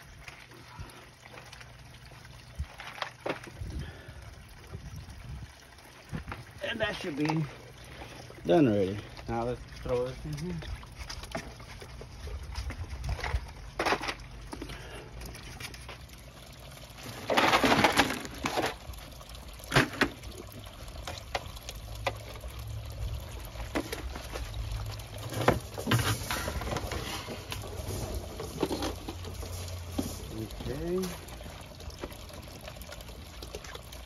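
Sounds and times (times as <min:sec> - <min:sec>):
water splashing in pond: 0:00.0 - 0:34.0.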